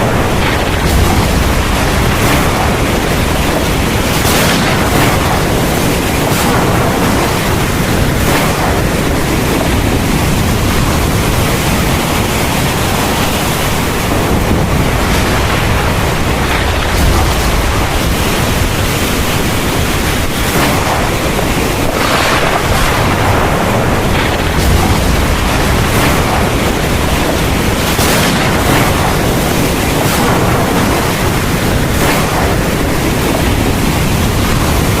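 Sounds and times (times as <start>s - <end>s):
heavy rain: 0.0s - 35.0s
thunder rumbling: 0.0s - 35.0s.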